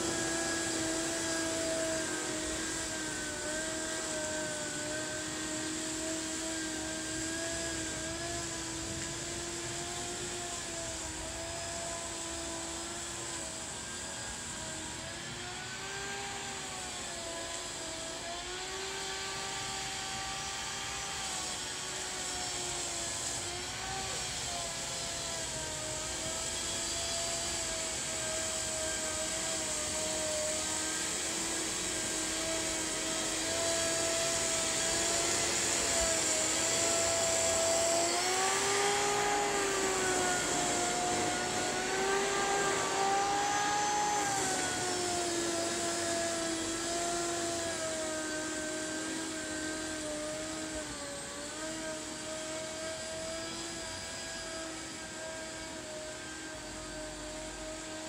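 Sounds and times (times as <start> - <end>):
electric lawn dethatcher whining: 0.0 - 58.0.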